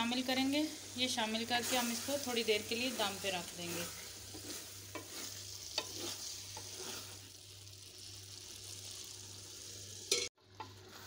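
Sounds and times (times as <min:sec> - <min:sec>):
food sizzling in a metal pan: 0:00.0 - 0:11.0.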